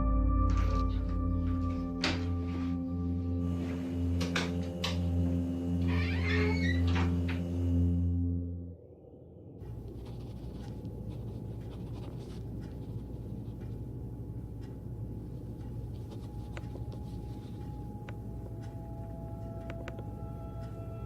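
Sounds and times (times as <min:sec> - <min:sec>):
soft sustained music tone: 0:00.0 - 0:13.5, 0:14.9 - 0:21.0
steady low rumble: 0:00.0 - 0:21.0.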